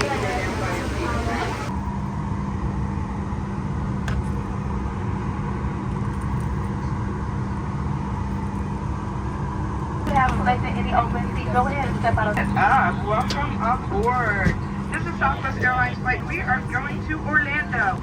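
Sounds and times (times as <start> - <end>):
aircraft cabin ventilation hum: 0.0 - 18.0.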